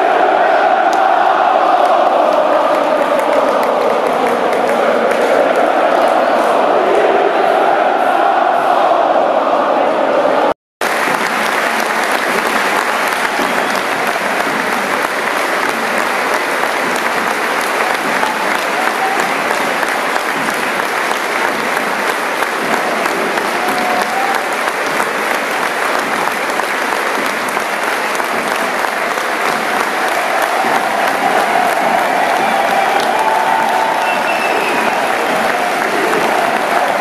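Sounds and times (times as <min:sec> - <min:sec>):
stadium crowd applauding: 0:00.0 - 0:06.7, 0:10.8 - 0:37.0.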